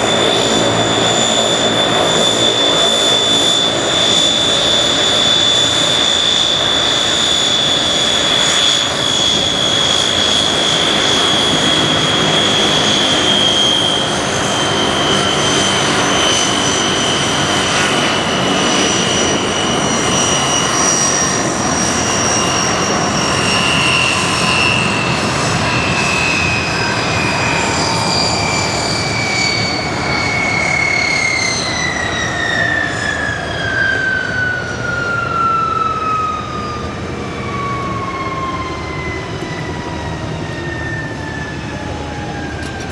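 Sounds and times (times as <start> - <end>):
steady engine rush: 0.0 - 42.9
turbine engine whine: 0.0 - 42.9.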